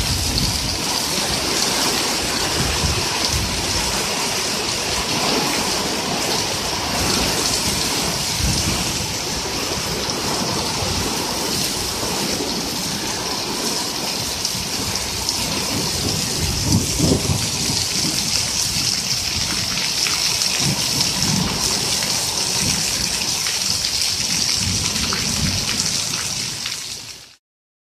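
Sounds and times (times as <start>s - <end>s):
heavy rain hissing: 0.0s - 27.4s
water streaming off roof: 0.0s - 27.4s.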